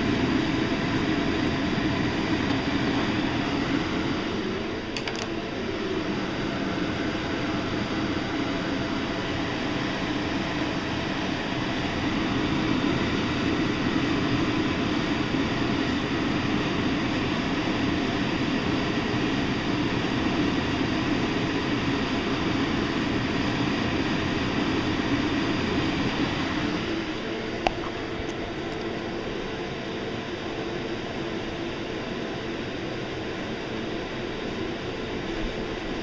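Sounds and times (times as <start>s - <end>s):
gas burner rushing: 0.0s - 36.0s.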